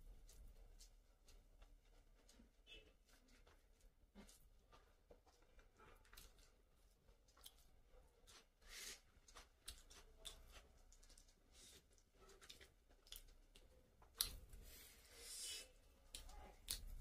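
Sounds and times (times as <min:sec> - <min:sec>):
chewing with wet mouth clicks: 0:00.2 - 0:14.6, 0:15.8 - 0:17.0.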